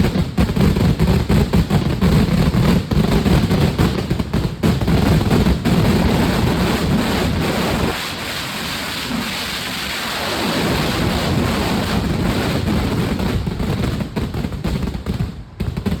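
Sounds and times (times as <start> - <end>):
fireworks barrage: 0.0 - 16.0.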